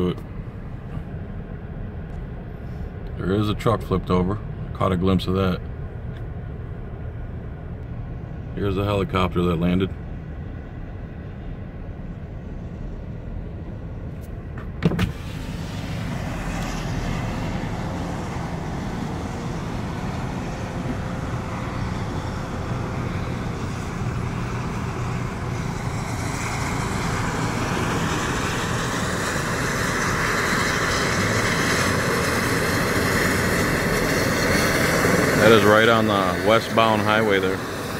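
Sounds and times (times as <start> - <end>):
road and traffic noise: 0.0 - 37.9.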